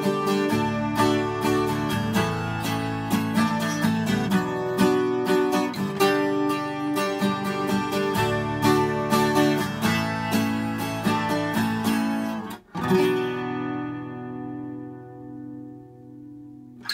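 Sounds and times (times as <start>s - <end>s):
twelve-string acoustic guitar: 0.0s - 16.9s.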